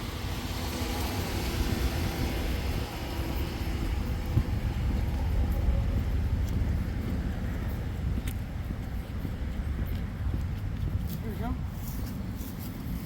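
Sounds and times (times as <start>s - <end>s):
road traffic passing: 0.0s - 13.0s
wind rumble on microphone: 0.0s - 13.0s.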